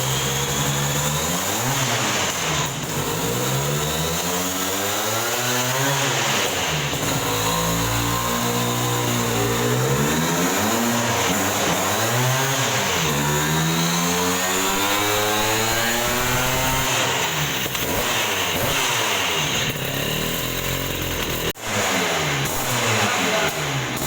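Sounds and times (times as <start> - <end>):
scooter engine revving: 0.0 - 24.0.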